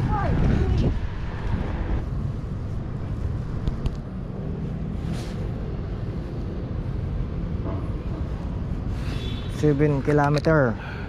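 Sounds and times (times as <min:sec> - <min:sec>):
low rumble of bike riding: 0:00.0 - 0:11.0.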